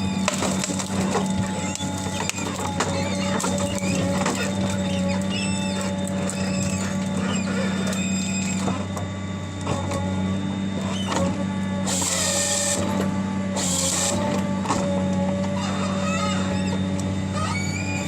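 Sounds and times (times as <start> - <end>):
machine humming: 0.0 - 18.0.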